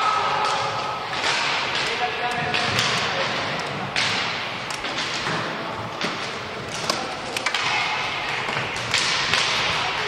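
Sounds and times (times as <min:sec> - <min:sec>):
hockey sticks clacking: 0:00.0 - 0:10.0
skate wheels rolling on wood: 0:00.0 - 0:10.0.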